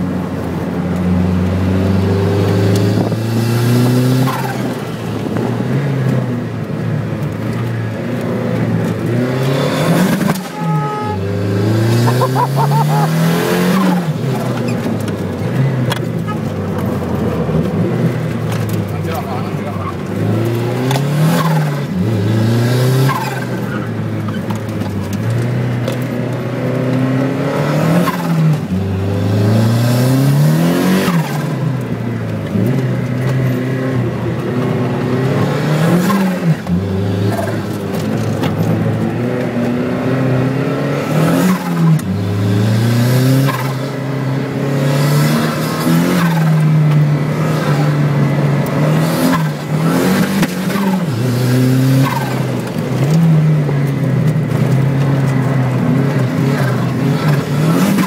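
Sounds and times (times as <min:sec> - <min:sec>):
sports car engine revving: 0:00.3 - 0:58.0.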